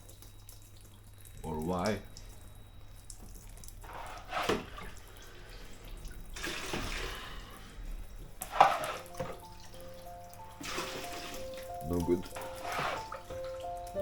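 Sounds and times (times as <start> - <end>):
water dripping and splashing: 0.0 - 14.0.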